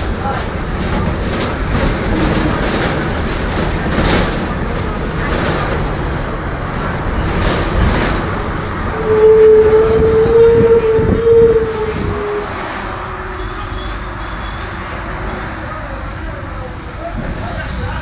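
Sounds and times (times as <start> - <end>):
bus diesel engine rumble: 0.0 - 18.0.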